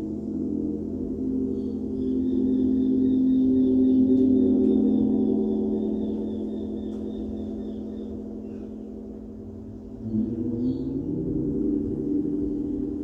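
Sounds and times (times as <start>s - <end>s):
gong ringing with deep hum: 0.0s - 13.0s.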